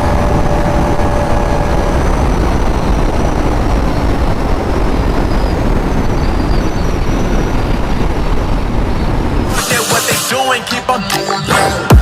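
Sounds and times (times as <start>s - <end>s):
wind and road noise: 0.0s - 10.3s.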